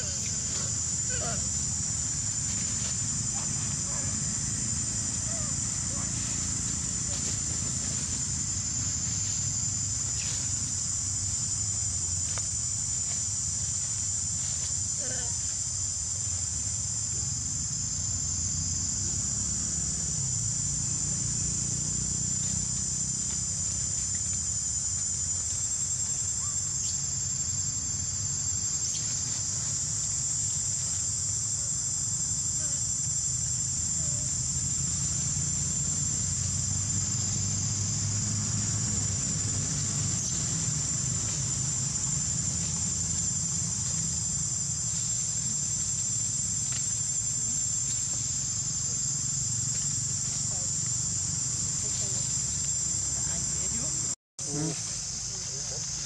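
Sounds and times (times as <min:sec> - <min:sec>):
low steady rumble: 0:00.0 - 0:14.9, 0:15.9 - 0:54.1
high-pitched insect drone: 0:00.0 - 0:56.0.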